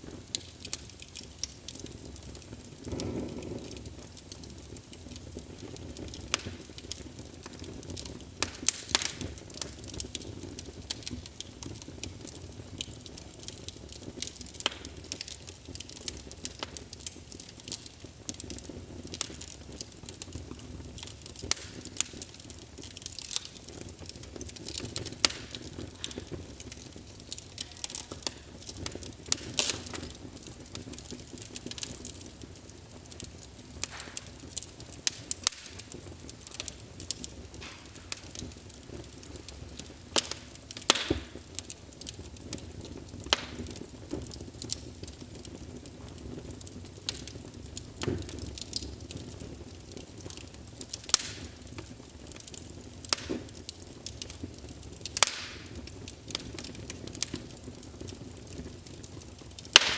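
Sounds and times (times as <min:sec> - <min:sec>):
burning logs popping and crackling: 0:00.0 - 0:59.9
hiss of flames: 0:00.0 - 0:59.9.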